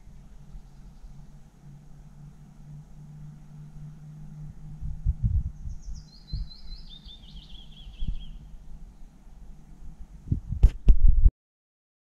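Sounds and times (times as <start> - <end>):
songbird singing: 0.0 - 10.2
low steady hum: 0.0 - 11.3.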